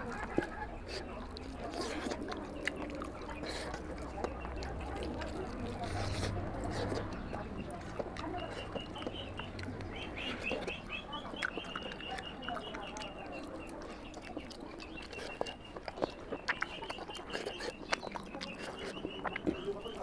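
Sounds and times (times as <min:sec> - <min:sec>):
fingers working through food: 0:00.0 - 0:20.0
wet chewing and lip-smacking: 0:00.0 - 0:20.0.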